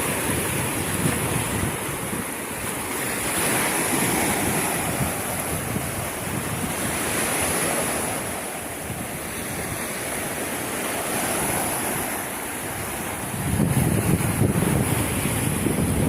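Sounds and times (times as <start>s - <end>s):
sea waves washing onto shore: 0.0s - 16.0s
wind buffeting microphone: 0.0s - 16.0s.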